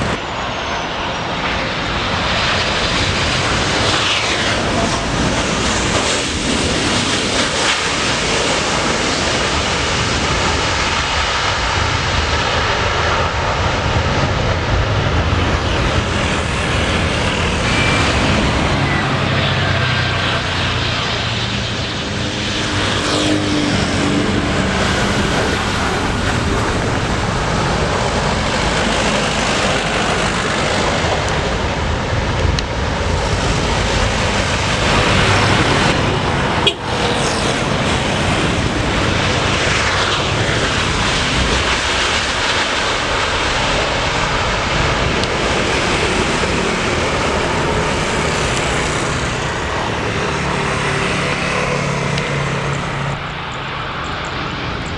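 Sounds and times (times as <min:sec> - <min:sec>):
jet engine whine falling in pitch: 0:00.0 - 0:54.9
jet engines roaring: 0:00.0 - 0:54.9.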